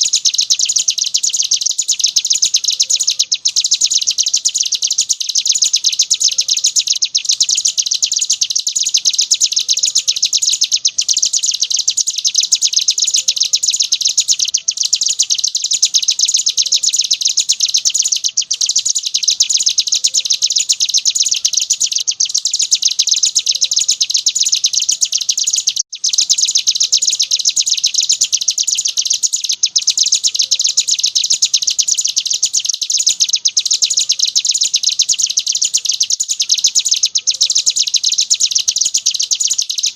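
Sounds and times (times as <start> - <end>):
bird singing rapid high trill: 0.0 - 39.9.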